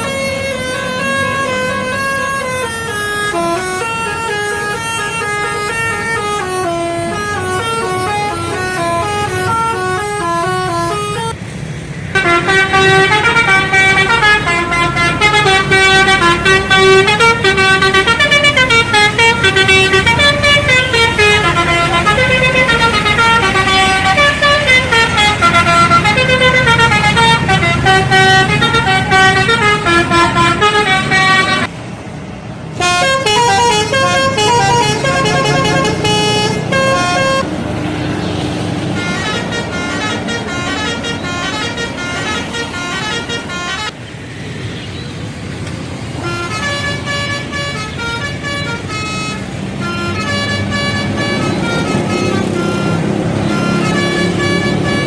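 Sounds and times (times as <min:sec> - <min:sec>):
multi-tone air horn melodies: 0:00.0 - 0:11.4, 0:12.1 - 0:31.7, 0:32.8 - 0:37.5, 0:38.9 - 0:44.0, 0:46.2 - 0:55.0
low vehicle rumble: 0:00.0 - 0:55.0.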